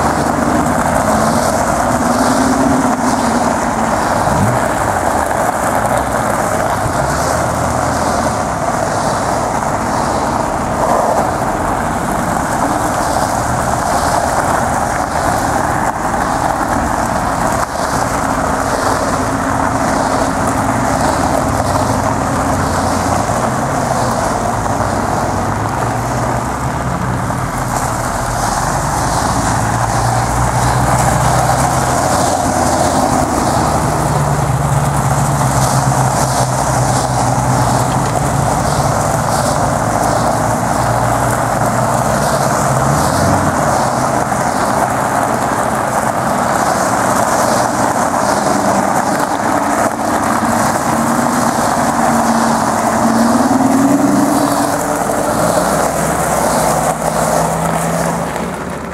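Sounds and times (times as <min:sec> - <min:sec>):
car engines running: 0:00.0 - 0:58.9
tyres crunching on gravel: 0:00.0 - 0:58.9.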